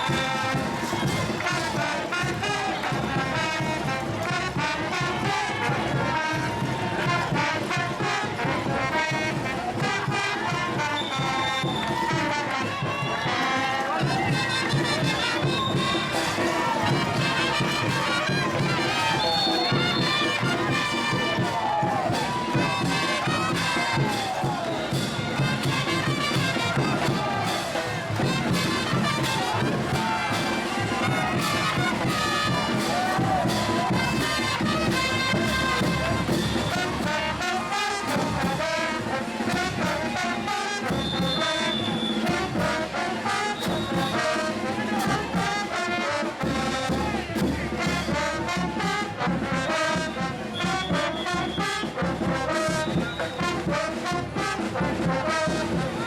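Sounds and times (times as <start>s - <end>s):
steady drum beat: 0.0s - 13.2s, 13.9s - 42.9s, 46.4s - 56.0s
trumpets and trombones: 0.0s - 56.0s.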